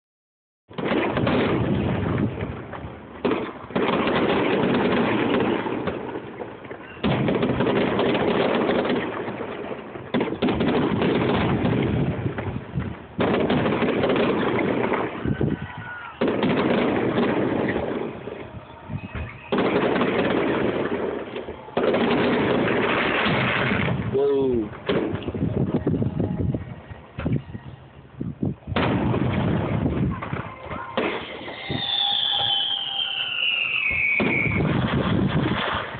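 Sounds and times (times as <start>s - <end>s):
firework booms with rumble: 0.7s - 26.1s, 28.7s - 35.9s.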